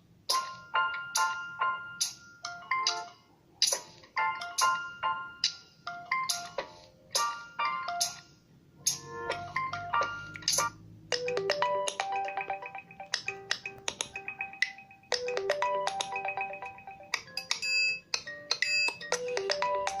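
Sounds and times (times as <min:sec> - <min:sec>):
phone ringtone melody: 0:00.3 - 0:03.2, 0:04.2 - 0:08.3, 0:09.0 - 0:20.0.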